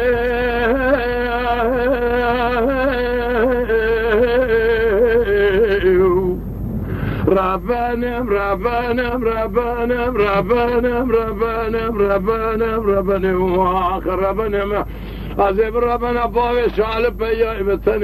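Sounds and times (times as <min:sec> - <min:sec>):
man singing ornamented melody: 0:00.0 - 0:06.5, 0:07.2 - 0:18.0.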